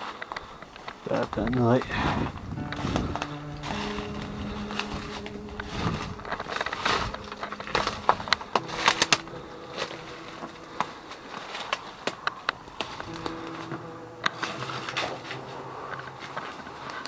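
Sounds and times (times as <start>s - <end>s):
clicks and crunches of footsteps: 0.0s - 17.0s
soft background music: 2.5s - 17.0s.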